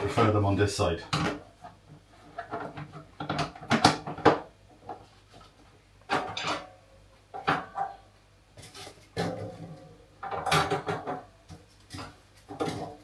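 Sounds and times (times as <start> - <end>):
kitchen items knocking and clattering: 1.1 - 13.0.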